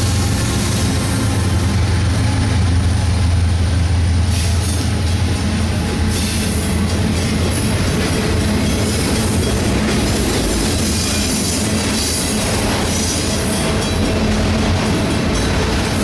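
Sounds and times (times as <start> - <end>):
locomotive engine drone: 0.0 - 16.0
rolling rail noise: 0.0 - 16.0.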